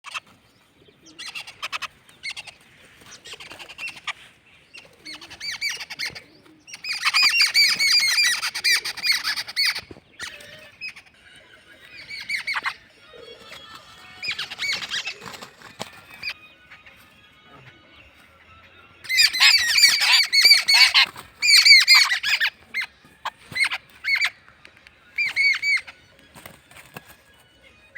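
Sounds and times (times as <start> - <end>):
birds squawking harshly: 0.0 - 27.9.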